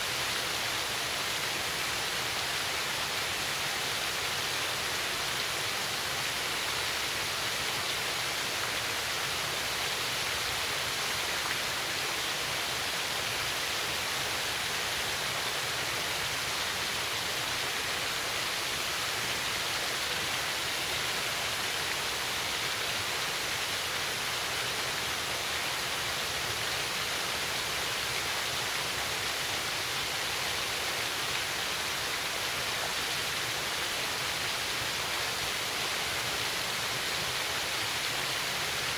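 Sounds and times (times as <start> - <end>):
small waterfall cascading: 0.0 - 38.9.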